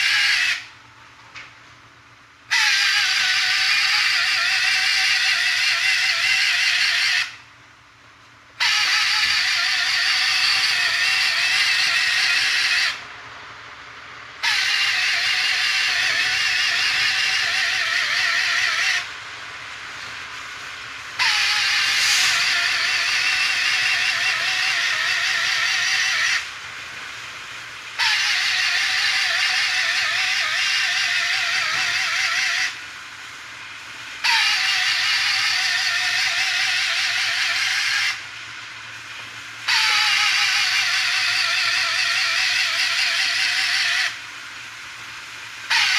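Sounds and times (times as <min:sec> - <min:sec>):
small motor whining with hiss: 0:00.0 - 0:01.5, 0:02.4 - 0:45.9.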